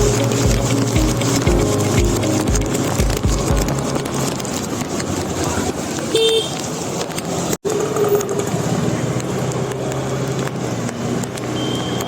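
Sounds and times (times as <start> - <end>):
motorbikes and cars passing: 0.0 - 12.0
road traffic: 0.0 - 12.0.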